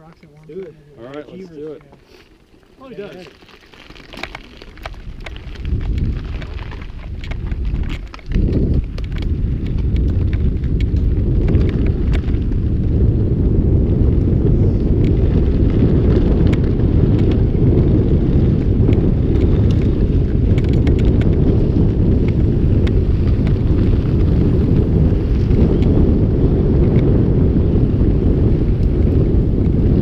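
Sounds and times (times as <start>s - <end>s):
bike clicks and rattles: 0.0s - 30.0s
wind rumbling on microphone: 0.0s - 30.0s.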